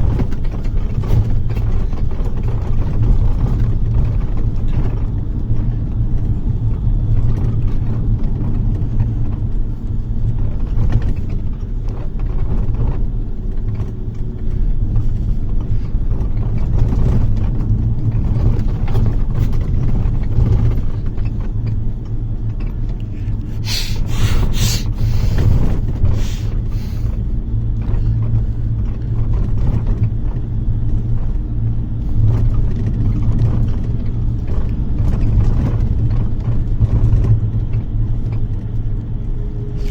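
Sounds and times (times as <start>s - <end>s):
bus engine rumble: 0.0s - 39.9s
road noise: 0.0s - 39.9s.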